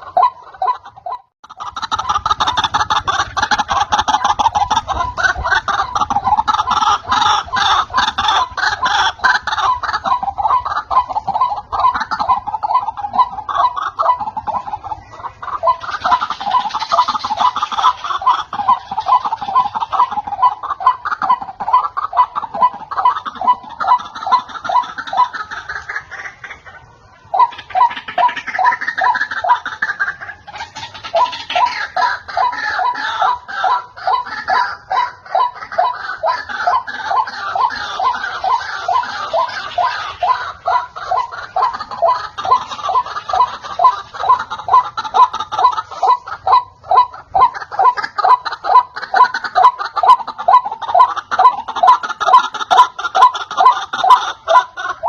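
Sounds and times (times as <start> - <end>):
higher overlapping bird calls: 0.0 - 55.0
waterhen calling: 0.0 - 55.0.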